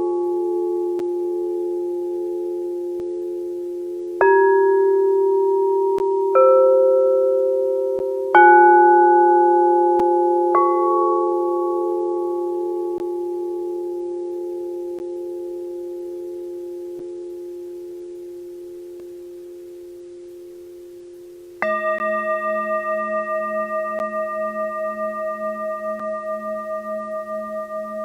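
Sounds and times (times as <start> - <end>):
singing bowl struck: 0.0 - 19.9, 21.6 - 28.0
singing bowl ringing: 0.0 - 28.0.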